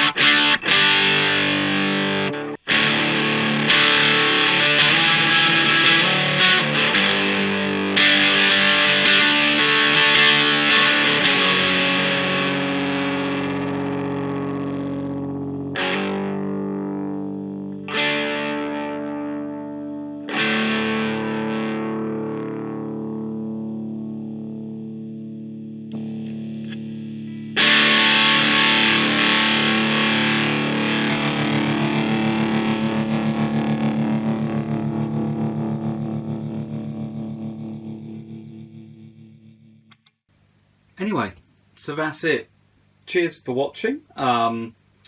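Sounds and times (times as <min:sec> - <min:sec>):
overdriven electric guitar chords: 0:00.0 - 0:40.2.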